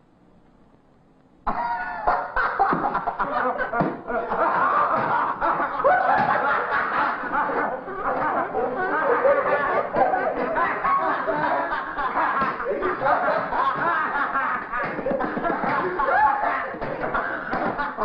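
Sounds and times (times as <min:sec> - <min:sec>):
boys laughing: 0:01.5 - 0:18.0.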